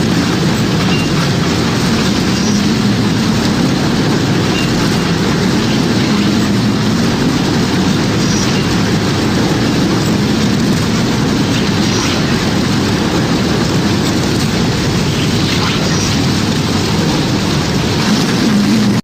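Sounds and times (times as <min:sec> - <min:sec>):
storm wind and sea roar: 0:00.0 - 0:19.0.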